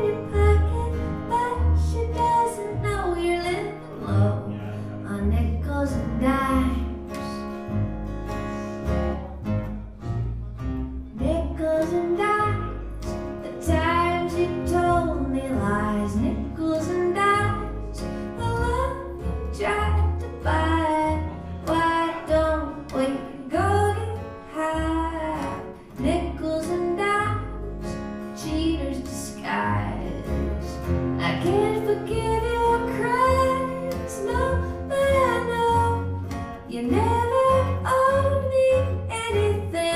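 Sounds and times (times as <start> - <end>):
woman singing: 0.0 - 7.5, 11.1 - 39.9
strummed guitar: 0.0 - 39.9.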